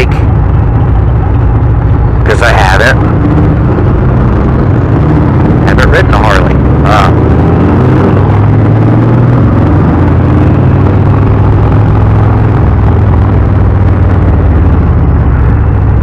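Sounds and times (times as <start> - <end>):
motorcycle engine droning: 0.0 - 16.0
road noise: 0.0 - 16.0
rushing wind: 0.0 - 16.0.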